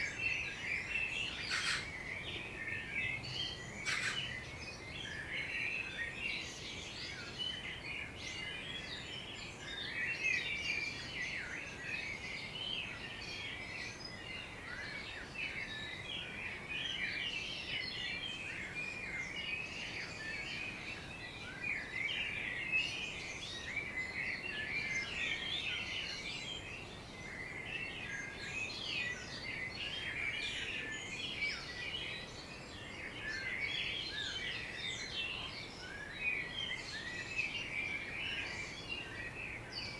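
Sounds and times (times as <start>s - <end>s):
birds chirping and singing: 0.0s - 39.9s
faint background hiss: 0.0s - 39.9s.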